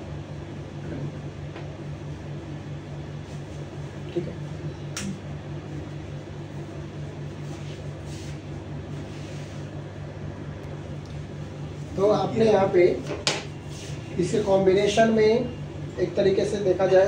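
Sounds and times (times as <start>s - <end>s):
low hum with pulsing throb: 0.0s - 14.4s.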